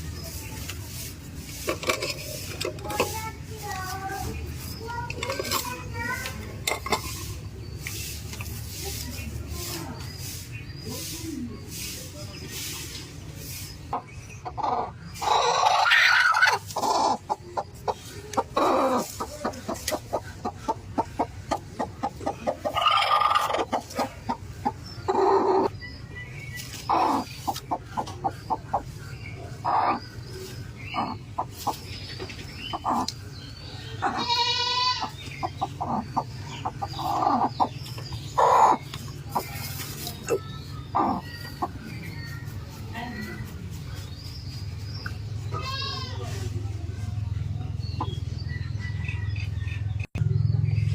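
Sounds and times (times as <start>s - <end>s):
chickens clucking: 0.0s - 50.3s.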